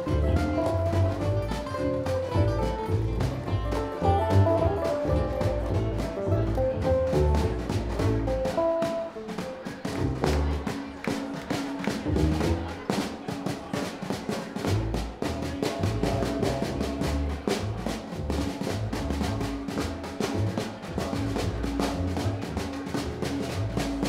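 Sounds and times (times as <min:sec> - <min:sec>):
upright bass: 0:00.0 - 0:13.0, 0:14.6 - 0:24.0
acoustic guitars: 0:00.0 - 0:24.0
mandolin: 0:00.0 - 0:24.0
snare drum struck rapidly: 0:00.0 - 0:24.0.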